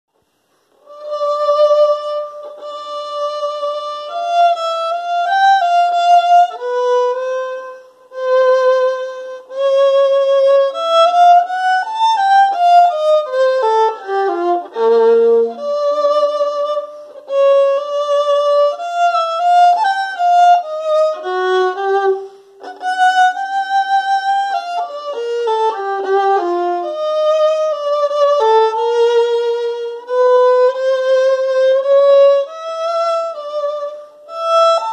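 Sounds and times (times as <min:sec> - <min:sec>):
solo violin playing: 0:00.6 - 0:34.9.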